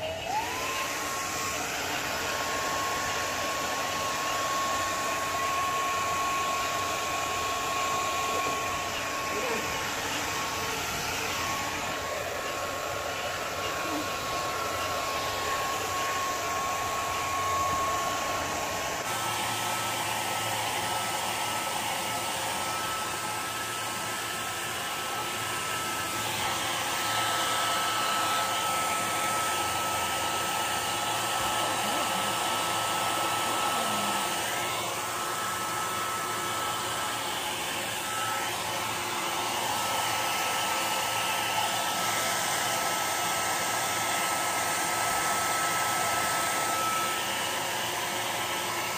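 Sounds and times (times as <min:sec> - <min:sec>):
hair dryer blowing: 0:00.0 - 0:48.9.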